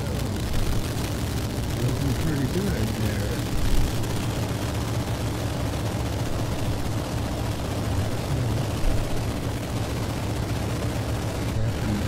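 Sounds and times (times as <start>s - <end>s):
radial engine droning in flight: 0.0s - 12.0s.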